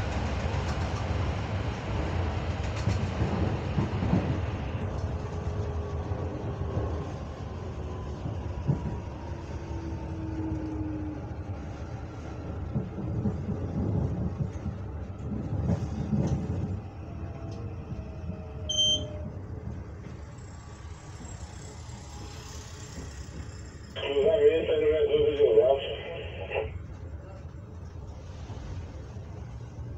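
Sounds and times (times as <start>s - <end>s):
train rumble with wheel clatter: 0.0s - 29.9s.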